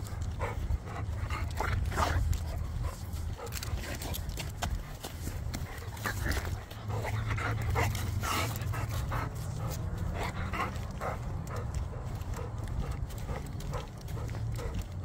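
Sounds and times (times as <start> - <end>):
dog panting: 0.0 - 15.0
steady low rumble: 0.0 - 15.0.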